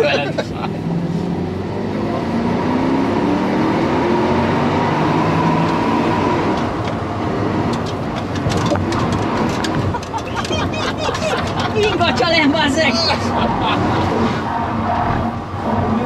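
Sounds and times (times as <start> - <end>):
car engine revving: 0.0 - 16.0
road and tyre noise: 0.0 - 16.0.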